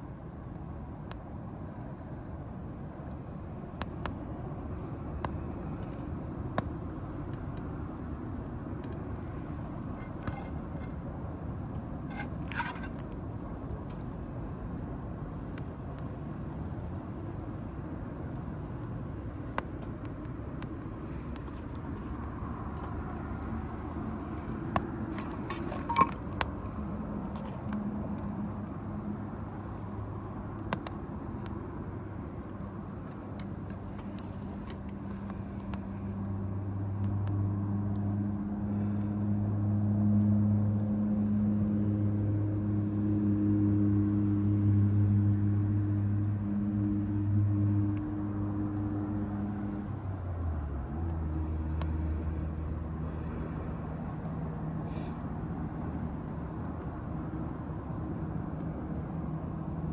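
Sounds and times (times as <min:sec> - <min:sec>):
pops and crackles of burning wood: 0:00.0 - 0:41.8, 0:45.3 - 0:59.9
campfire burning with low rumble: 0:00.0 - 0:59.9.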